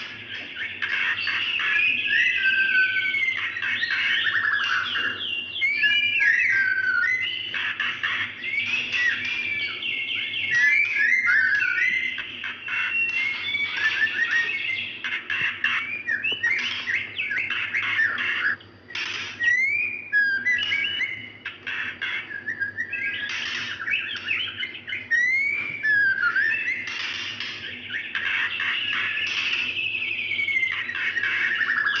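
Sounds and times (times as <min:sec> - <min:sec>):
bird whistles and trills: 0:00.0 - 0:32.0.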